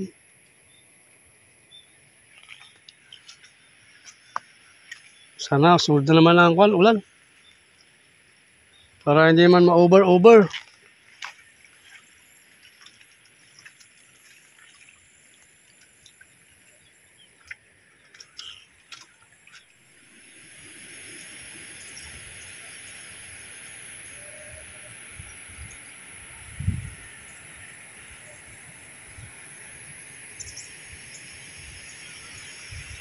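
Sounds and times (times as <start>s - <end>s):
faint scattered ticks: 0.0s - 33.0s
steady hiss of water: 0.0s - 33.0s.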